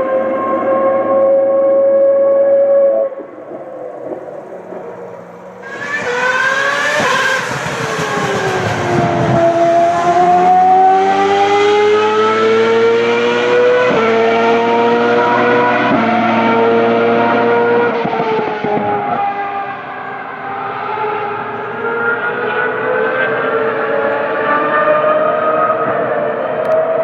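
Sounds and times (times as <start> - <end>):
racing car engine revving: 4.7 - 27.0.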